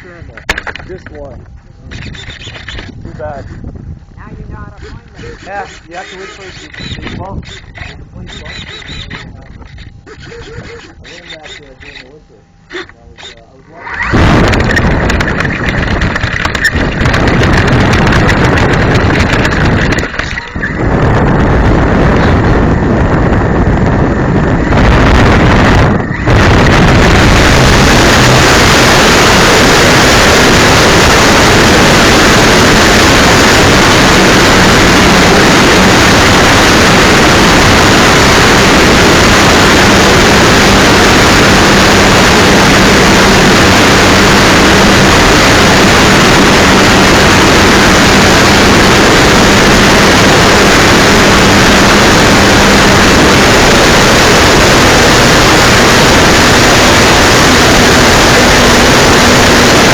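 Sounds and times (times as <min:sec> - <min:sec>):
faint steady hum: 0:00.0 - 0:59.9
wind buffeting microphone: 0:00.0 - 0:59.9.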